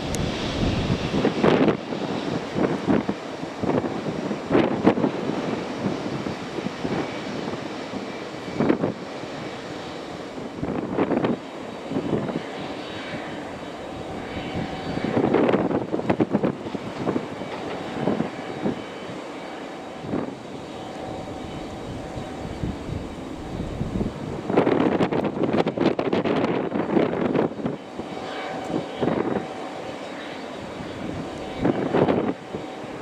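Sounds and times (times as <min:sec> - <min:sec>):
airliner engines droning: 0:00.0 - 0:33.0
wind buffeting microphone: 0:00.0 - 0:33.0.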